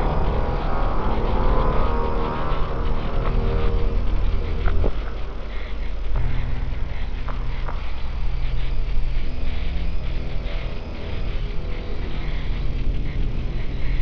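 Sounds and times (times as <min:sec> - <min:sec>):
low droning tones: 0:00.0 - 0:14.0.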